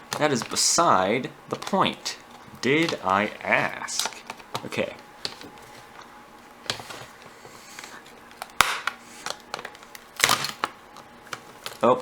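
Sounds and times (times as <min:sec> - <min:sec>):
plastic parts clicking and scraping: 0:00.0 - 0:12.0.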